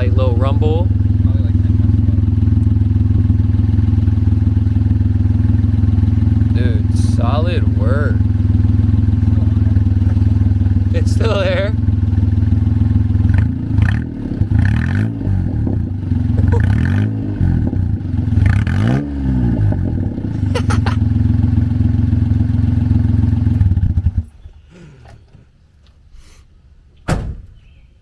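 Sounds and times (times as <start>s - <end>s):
exhaust cracks: 0.0s - 24.4s
truck engine idling and revving: 0.0s - 24.4s.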